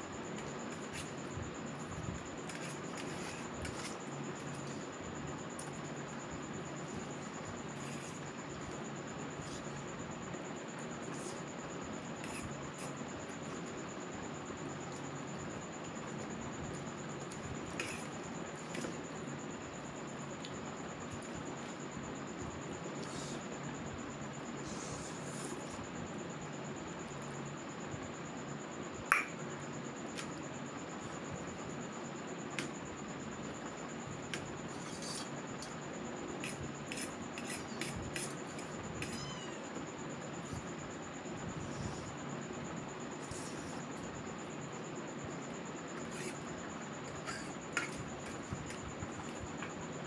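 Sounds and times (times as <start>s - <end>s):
ceiling fan humming: 0.0s - 50.0s.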